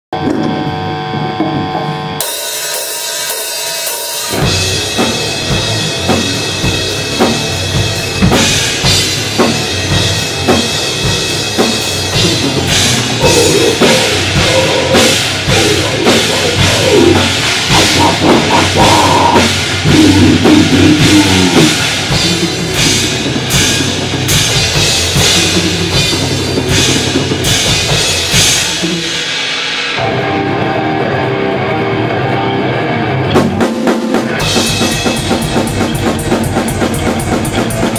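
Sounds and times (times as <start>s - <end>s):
heavy metal band playing: 0.5s - 37.9s
drum blast beats: 1.4s - 30.4s, 33.4s - 37.9s.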